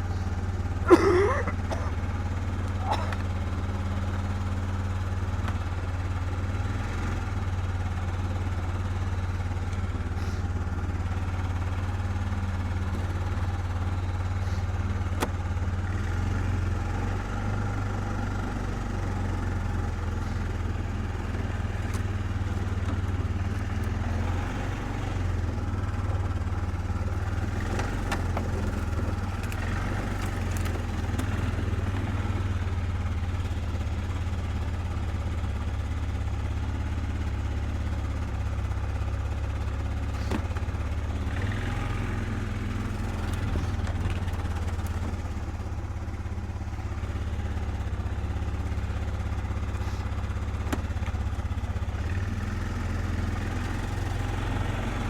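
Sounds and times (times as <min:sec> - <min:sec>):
small engine idling: 0:00.0 - 0:55.0.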